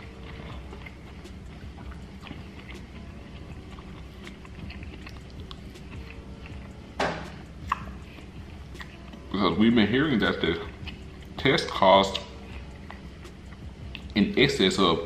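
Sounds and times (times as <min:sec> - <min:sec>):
man chewing food: 0:00.0 - 0:14.3.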